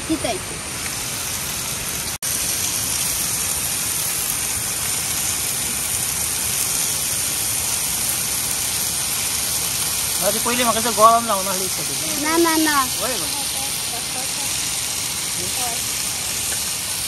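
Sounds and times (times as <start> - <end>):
chicken frying in a pan: 0.1 - 17.0.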